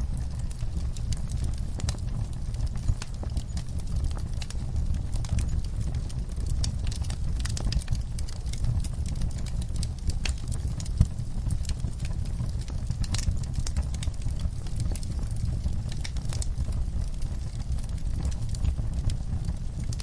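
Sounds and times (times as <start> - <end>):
log fire crackling and popping: 0.0 - 20.0
low rumble of flames: 0.0 - 20.0.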